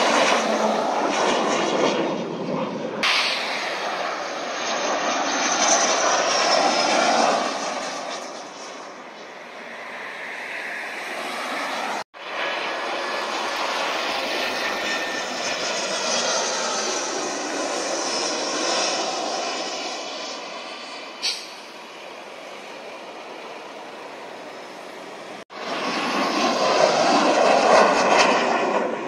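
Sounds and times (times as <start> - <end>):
airliner jet engines: 0.0 - 29.0
fighter jet passing low: 0.0 - 29.0.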